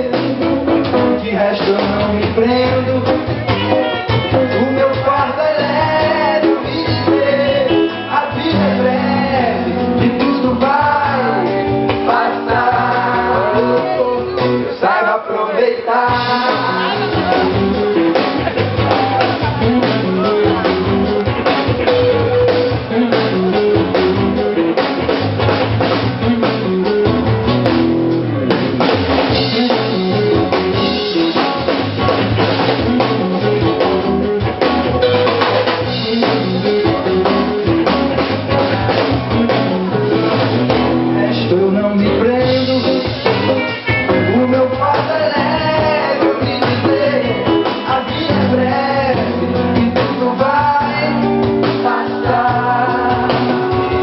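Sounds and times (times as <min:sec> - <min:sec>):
drum kit: 0:00.0 - 0:15.0, 0:15.9 - 0:54.0
live pop-rock band playing: 0:00.0 - 0:54.0.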